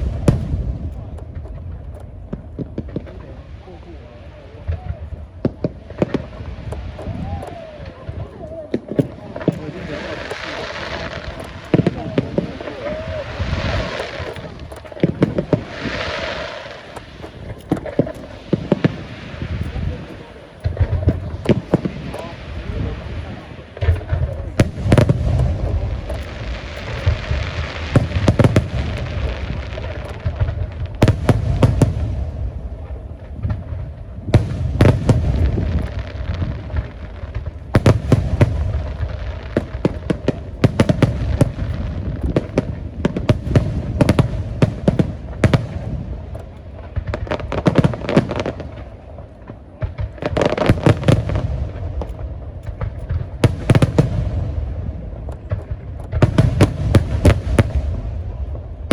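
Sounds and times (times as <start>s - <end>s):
crackling hiss: 0.0s - 58.9s
fireworks bangs: 0.0s - 58.9s.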